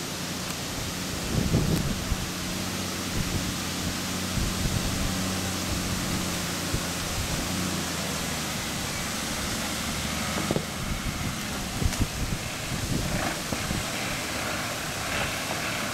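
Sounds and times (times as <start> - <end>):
diesel engine at low revs: 0.0 - 15.9
steady hiss: 0.0 - 15.9.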